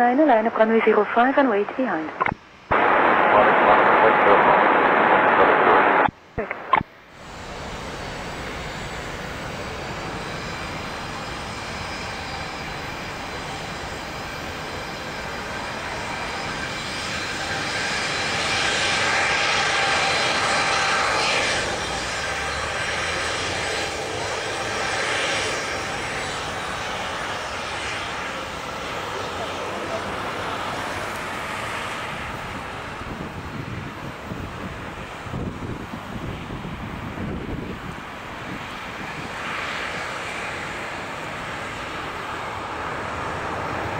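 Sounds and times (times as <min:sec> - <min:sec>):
jet engines rushing with whine: 0:00.0 - 0:43.9.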